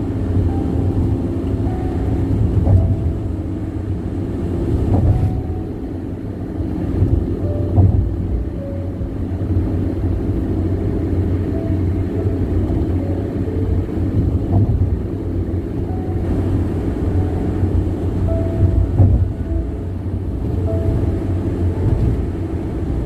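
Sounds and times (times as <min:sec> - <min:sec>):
car tyres road noise: 0:00.0 - 0:23.0.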